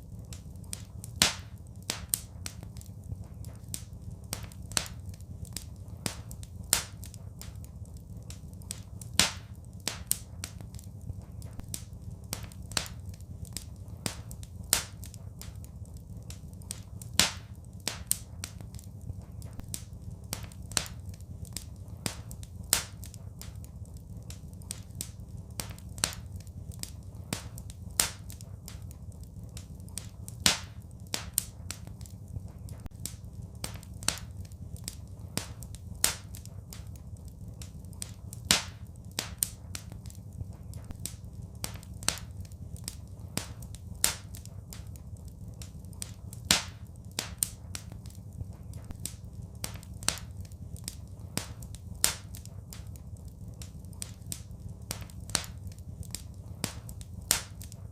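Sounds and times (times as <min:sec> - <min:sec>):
fire crackling and popping: 0:00.0 - 0:57.9
low even rumble: 0:00.0 - 0:57.9.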